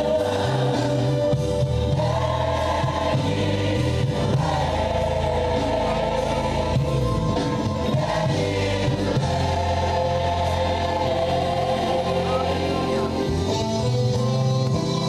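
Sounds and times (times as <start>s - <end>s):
gospel choir singing: 0.0s - 15.0s
steady bass line: 0.0s - 15.0s.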